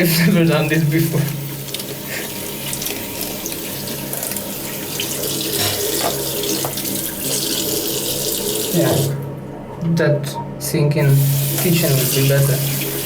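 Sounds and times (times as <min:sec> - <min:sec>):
tap water running into sink: 0:00.0 - 0:09.3, 0:11.1 - 0:13.0.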